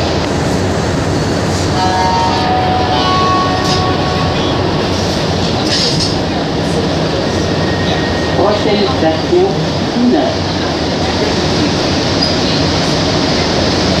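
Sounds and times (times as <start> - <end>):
metro train rumbling: 0.0 - 14.0.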